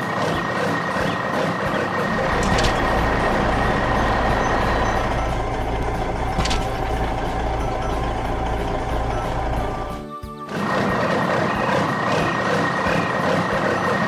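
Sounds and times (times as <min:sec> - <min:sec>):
heavy vehicle engine din: 0:00.0 - 0:14.0.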